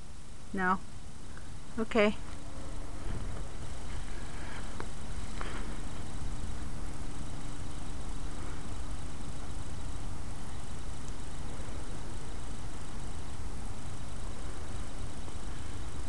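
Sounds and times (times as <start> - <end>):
faint steady hum: 0.0 - 16.0
low outdoor rumble: 0.0 - 16.0.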